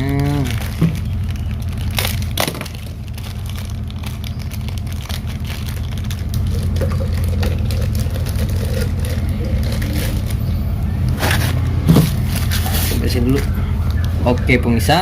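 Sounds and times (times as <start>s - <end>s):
plastic bag crinkling: 0.0s - 10.6s, 11.2s - 13.6s
low steady hum: 0.0s - 15.0s.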